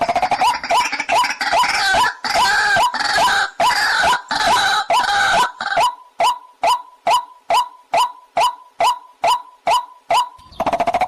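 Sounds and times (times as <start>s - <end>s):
waterhens harsh chorus: 0.0s - 10.8s
repeated hooked bird notes: 0.0s - 11.0s.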